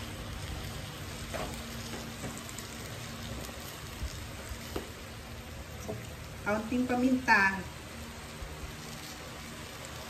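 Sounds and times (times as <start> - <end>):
meat sizzling in a pot: 0.0 - 10.0.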